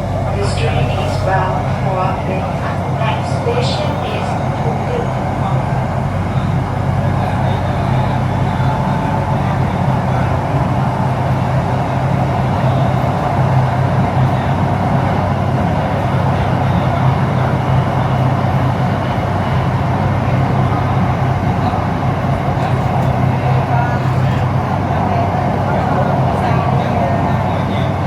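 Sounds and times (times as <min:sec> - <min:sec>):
electric train hum and rumble: 0:00.0 - 0:28.0.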